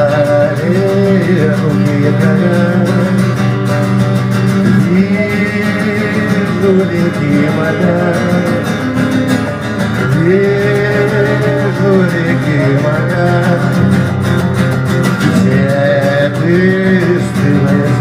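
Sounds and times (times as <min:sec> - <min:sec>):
sliding melody line: 0:00.0 - 0:18.0
strummed acoustic guitar: 0:00.0 - 0:18.0
low bass line: 0:01.4 - 0:18.0.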